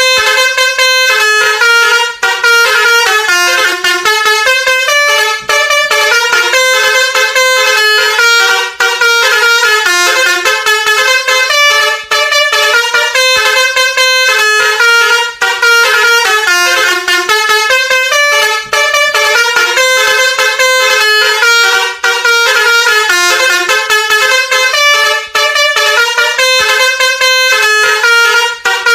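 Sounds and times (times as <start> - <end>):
musical horn playing a melody: 0.0 - 28.9.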